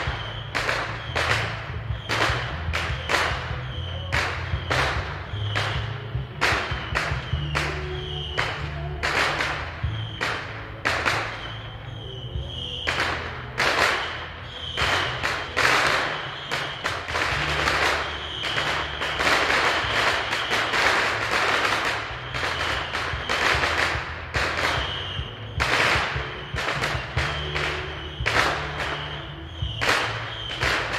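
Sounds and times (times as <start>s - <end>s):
fireworks and firecrackers banging: 0.0s - 30.9s.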